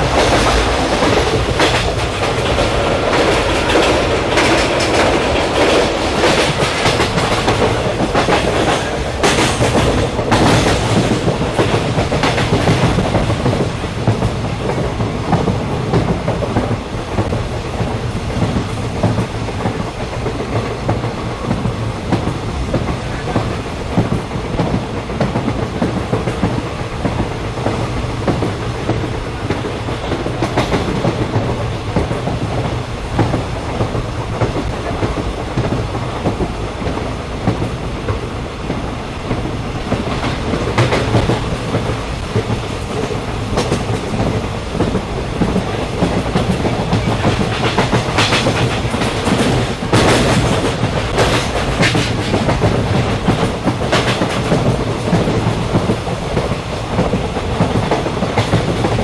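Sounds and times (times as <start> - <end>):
train rumbling: 0.0 - 59.0
wheels clacking over rail joints: 0.0 - 59.0.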